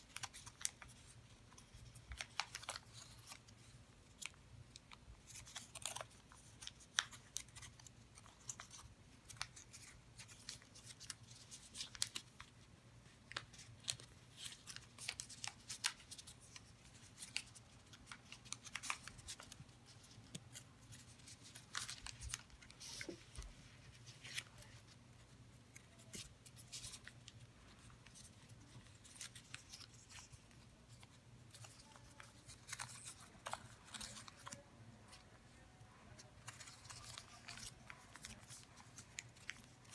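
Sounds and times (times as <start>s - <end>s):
paper crinkling while folded: 0.0s - 39.9s.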